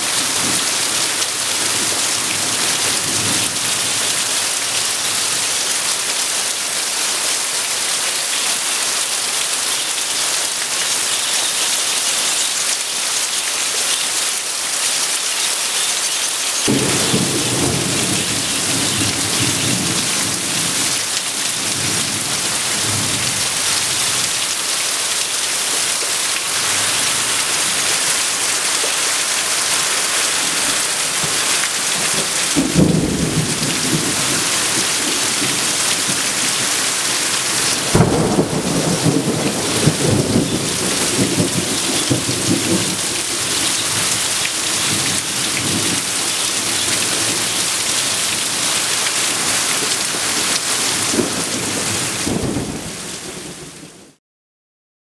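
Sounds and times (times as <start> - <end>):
heavy rain on corrugated roof: 0.0 - 54.2.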